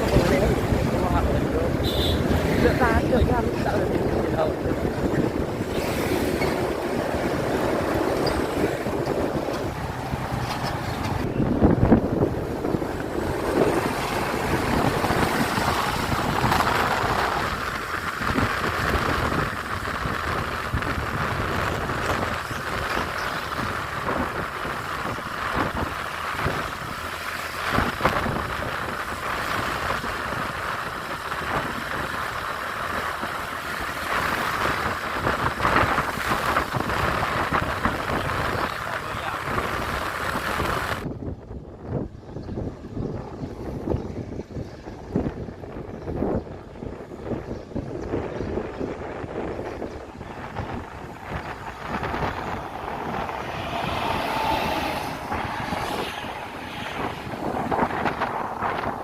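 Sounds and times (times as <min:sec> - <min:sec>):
truck and road traffic: 0:00.0 - 0:59.0
wind buffeting microphone: 0:00.0 - 0:59.0.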